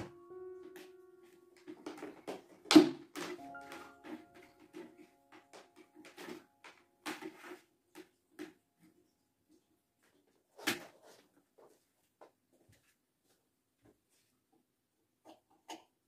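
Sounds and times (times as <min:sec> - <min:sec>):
household things being handled: 0:00.0 - 0:13.0.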